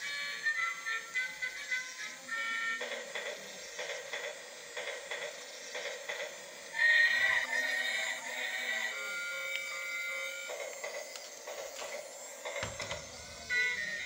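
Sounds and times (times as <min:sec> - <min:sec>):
toy train electronic tune: 0:00.0 - 0:14.0.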